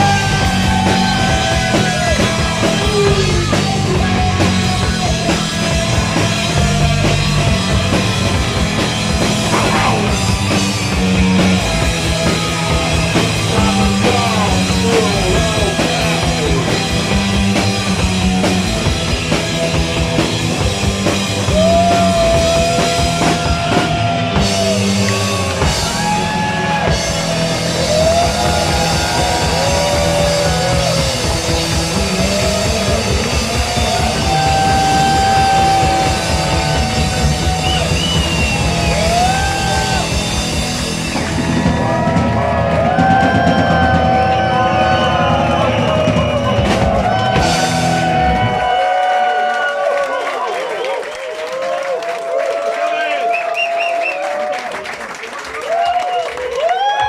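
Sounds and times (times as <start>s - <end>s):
pounding drums: 0.0s - 48.8s
bass: 0.0s - 52.0s.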